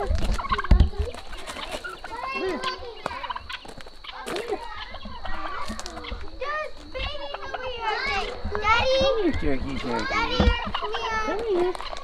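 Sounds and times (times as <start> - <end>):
turkey gobbling: 0.0 - 12.0.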